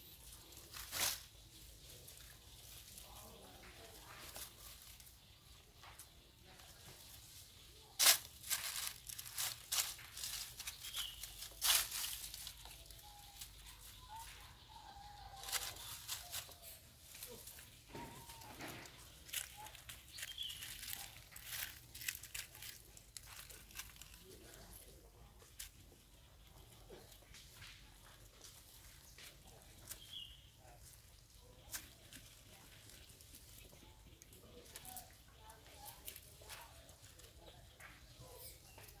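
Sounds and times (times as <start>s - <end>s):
dry leaves crackling and rustling: 0.0s - 39.0s.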